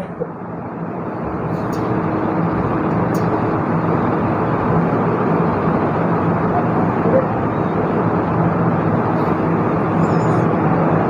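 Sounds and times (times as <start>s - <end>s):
electric fan rushing: 0.0s - 11.0s.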